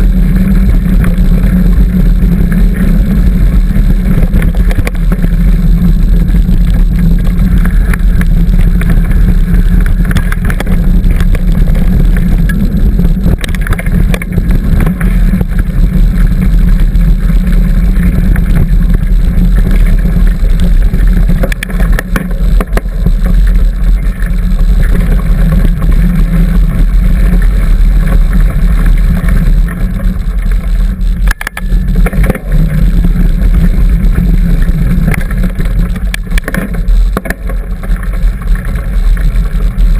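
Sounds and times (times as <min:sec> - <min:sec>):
bicycle knocks and rattles: 0:00.0 - 0:39.9
wind rumble on microphone: 0:00.0 - 0:39.9.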